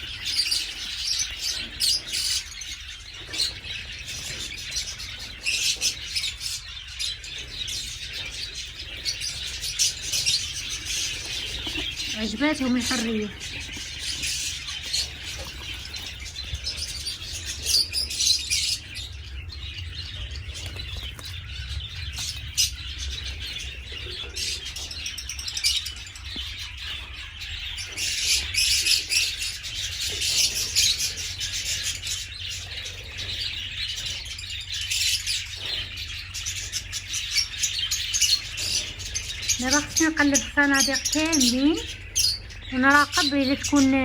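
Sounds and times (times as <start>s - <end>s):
cage birds chirping: 0.0s - 44.0s.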